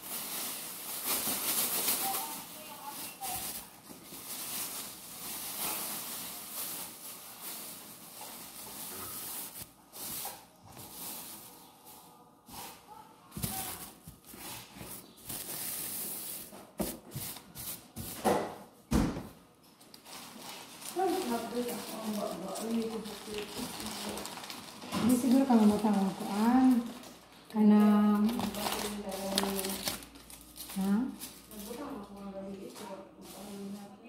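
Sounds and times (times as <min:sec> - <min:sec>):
plastic sheet rustling: 0:00.0 - 0:18.4, 0:19.9 - 0:34.0.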